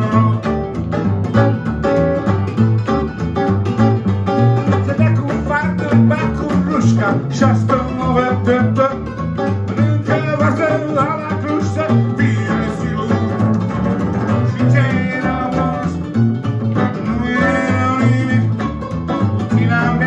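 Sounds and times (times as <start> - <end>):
double bass line: 0.0 - 20.0
electric guitar: 0.0 - 20.0
rock and roll band playing: 0.0 - 20.0.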